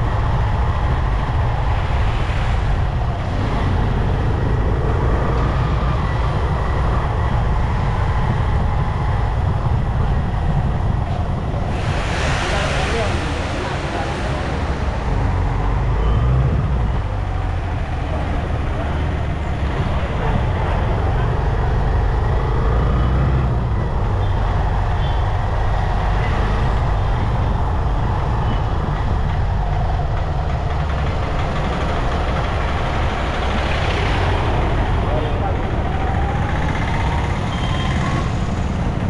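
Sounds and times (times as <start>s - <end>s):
road noise: 0.0s - 39.0s.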